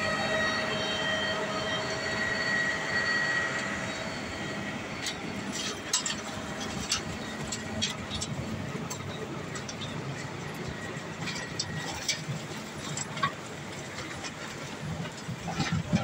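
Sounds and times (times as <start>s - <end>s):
crusher running with low hum: 0.0s - 16.0s.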